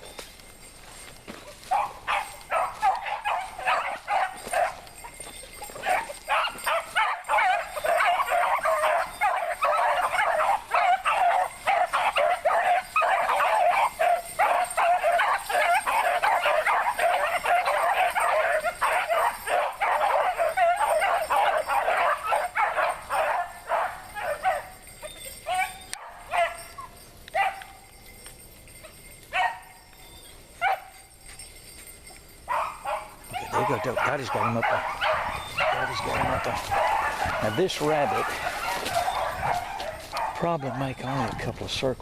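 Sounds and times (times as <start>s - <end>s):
dogs baying together: 0.8s - 27.9s, 32.4s - 41.4s.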